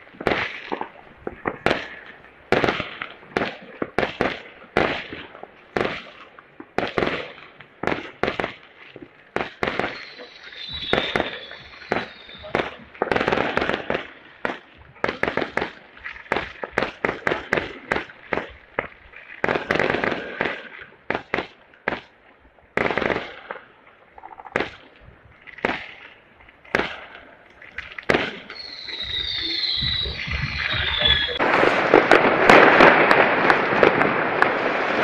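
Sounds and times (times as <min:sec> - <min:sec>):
fireworks banging: 0:00.0 - 0:35.0.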